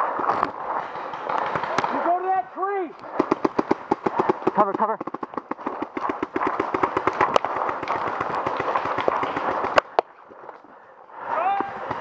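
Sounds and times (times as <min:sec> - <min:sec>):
paintball markers firing: 0:00.1 - 0:02.2, 0:02.9 - 0:10.5.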